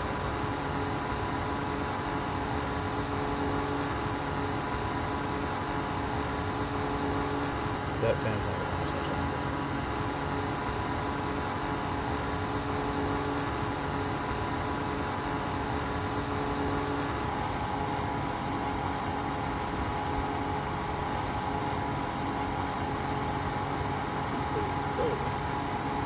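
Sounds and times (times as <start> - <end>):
heater fan motor whirring: 0.0 - 26.0.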